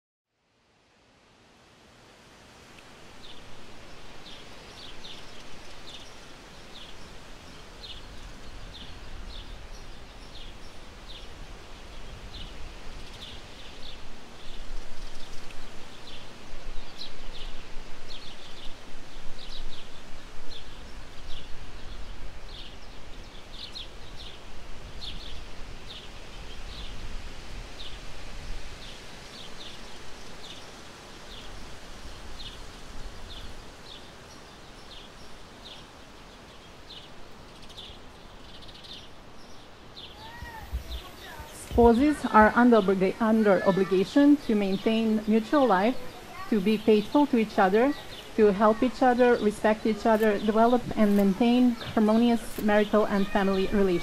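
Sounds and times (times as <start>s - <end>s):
rustling hiss: 0.7s - 54.0s
small birds chirping: 2.7s - 54.0s.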